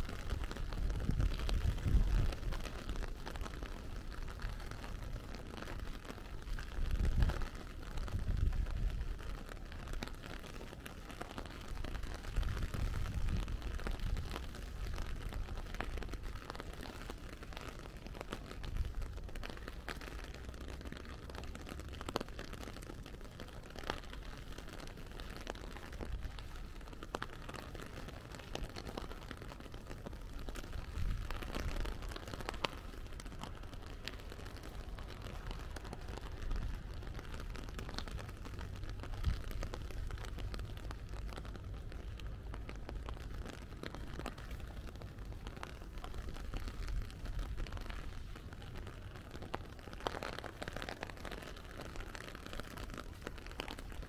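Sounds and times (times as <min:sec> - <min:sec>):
rain drops ticking: 0:00.0 - 0:54.0.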